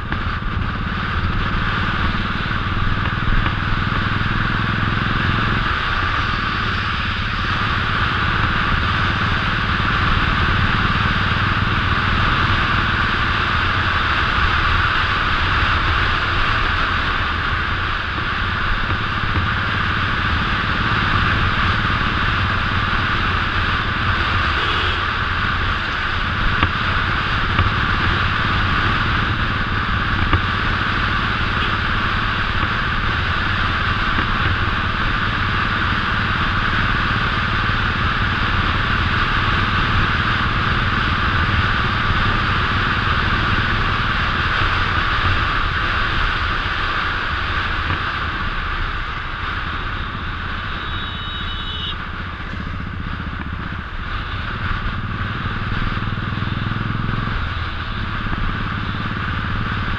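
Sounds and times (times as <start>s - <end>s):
motorcycle engine running: 0.0s - 59.9s
steady rushing noise: 0.0s - 59.9s.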